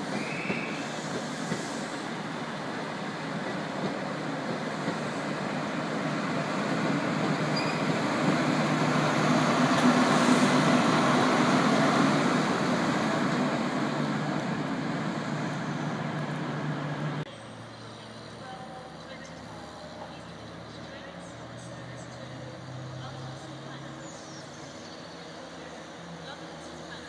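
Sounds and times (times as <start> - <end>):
diesel train passing: 0.0 - 27.0.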